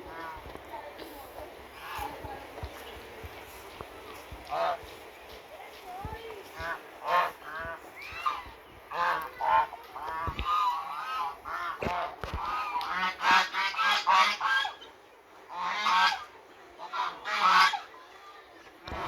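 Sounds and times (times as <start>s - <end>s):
waterfowl calling: 0.0s - 17.9s.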